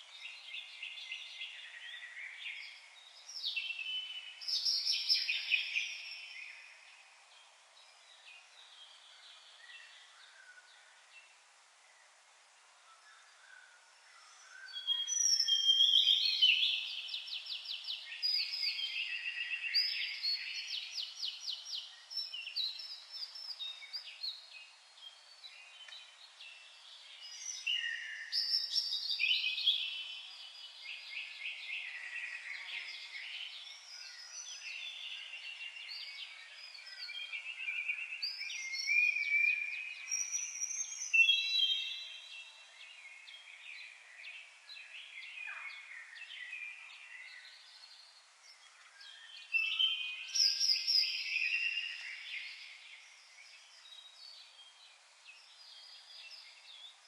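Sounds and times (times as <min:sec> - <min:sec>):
songbird singing trills: 0:00.0 - 0:11.3, 0:13.0 - 0:57.0.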